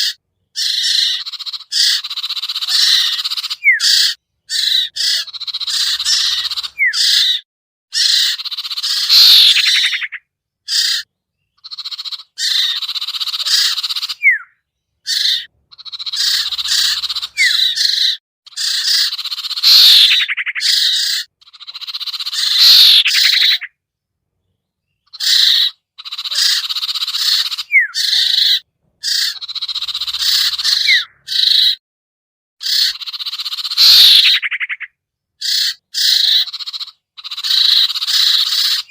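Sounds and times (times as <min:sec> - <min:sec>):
birds chattering: 0:00.0 - 0:31.8, 0:32.6 - 0:38.9.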